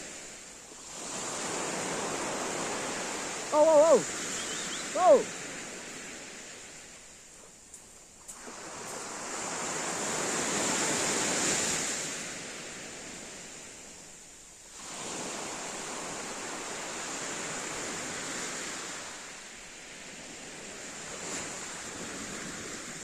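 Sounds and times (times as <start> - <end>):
waves breaking on a pebble shore: 0.0 - 23.0.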